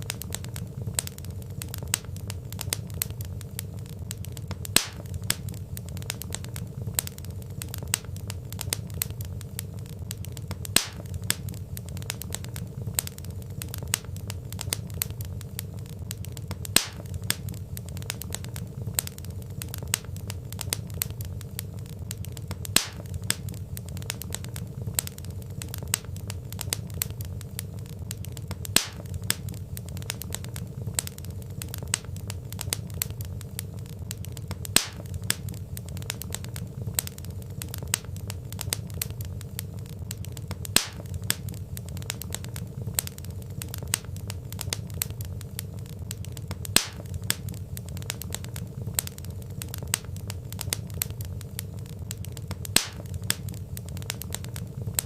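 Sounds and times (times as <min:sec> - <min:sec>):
log fire crackling: 0:00.0 - 0:55.0
low rumble of burning: 0:00.0 - 0:55.0.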